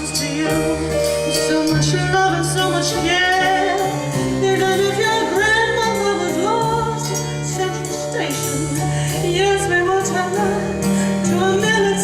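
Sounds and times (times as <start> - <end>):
instrumental backing track: 0.0 - 12.0.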